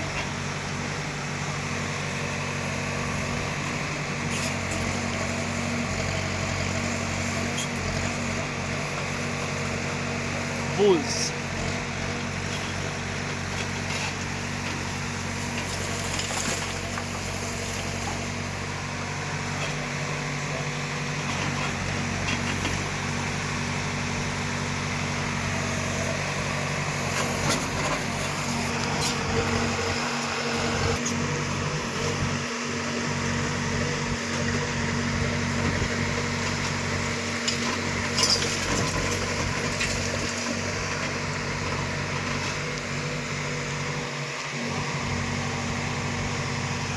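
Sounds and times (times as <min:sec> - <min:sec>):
heavy machinery diesel engine running: 0:00.0 - 0:46.9.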